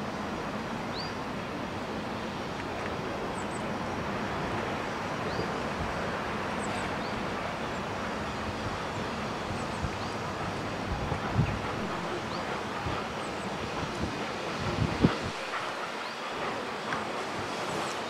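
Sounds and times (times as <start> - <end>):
steam locomotive rushing: 0.0 - 18.0.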